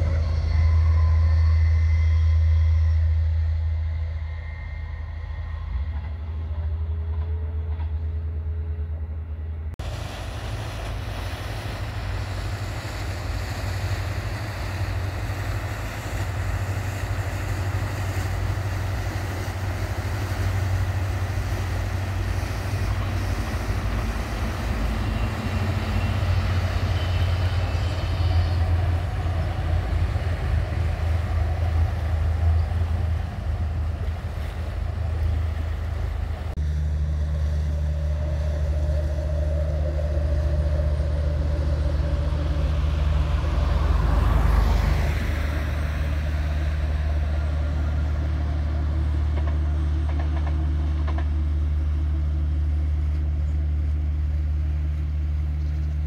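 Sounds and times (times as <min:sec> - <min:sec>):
diesel train engine drone: 0:00.0 - 0:56.0
motor boat engine and wake: 0:00.0 - 0:56.0.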